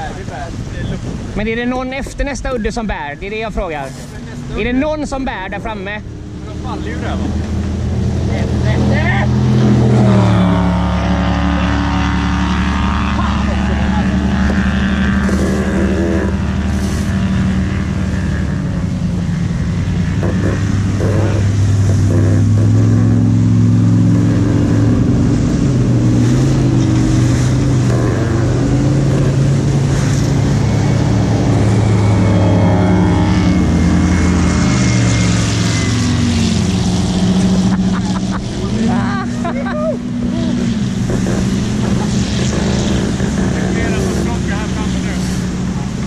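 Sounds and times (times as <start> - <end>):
motorboat engines: 0.0 - 46.0
rushing water: 0.0 - 46.0.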